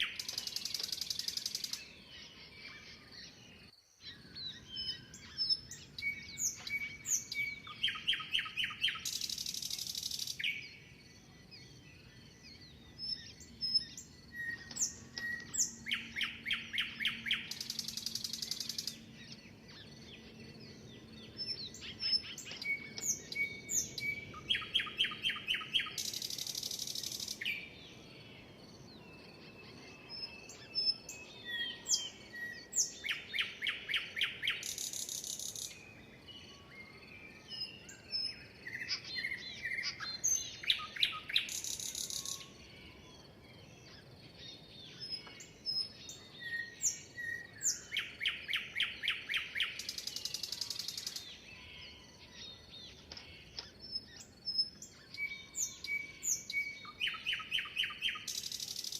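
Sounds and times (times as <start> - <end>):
songbirds chirping and whistling: 0.0 - 58.9.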